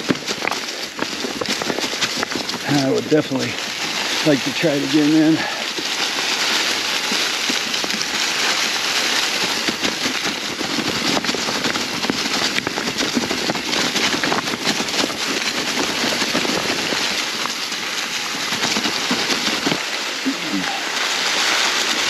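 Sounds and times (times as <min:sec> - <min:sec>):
bike knocking and rattling: 0:00.0 - 0:22.0
dry leaves crackling under tyres: 0:00.0 - 0:22.0.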